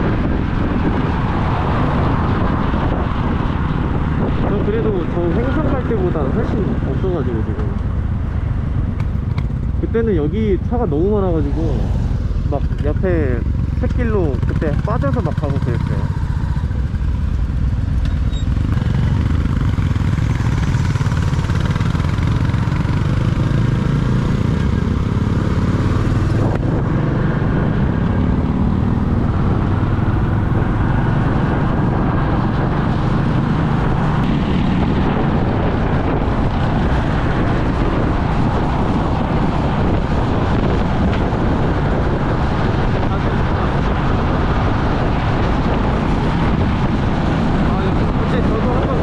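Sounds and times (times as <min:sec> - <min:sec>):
motorcycle engine drone: 0:00.0 - 0:49.0
wind noise: 0:00.0 - 0:49.0.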